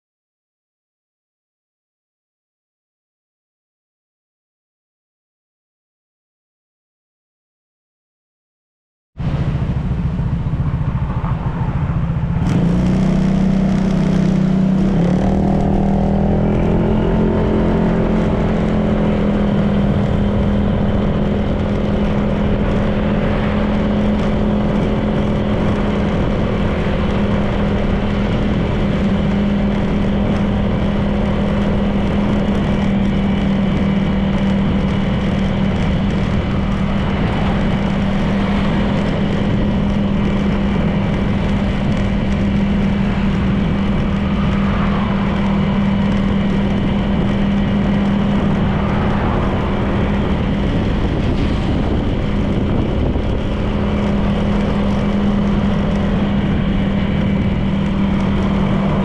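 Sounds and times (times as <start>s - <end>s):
scooter engine running: 9.2s - 59.0s.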